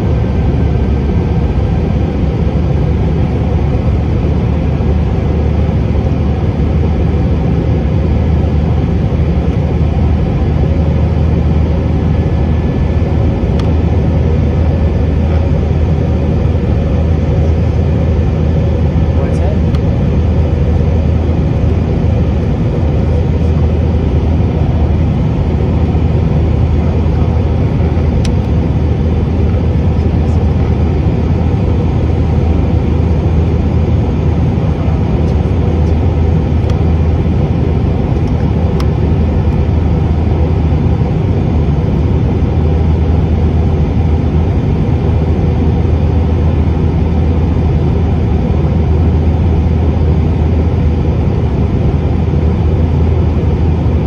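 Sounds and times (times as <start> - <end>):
jet cabin engine drone: 0.0 - 54.0.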